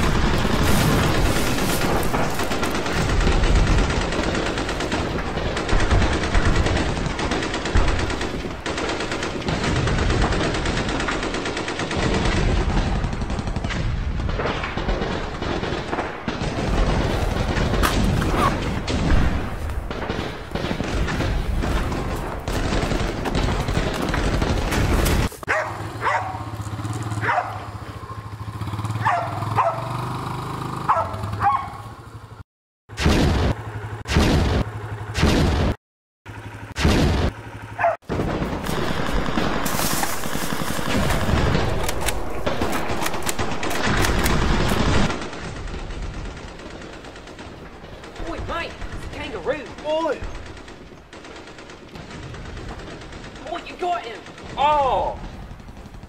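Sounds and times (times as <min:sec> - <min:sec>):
machine-gun fire and gunshots: 0:00.0 - 0:31.6, 0:32.9 - 0:56.0.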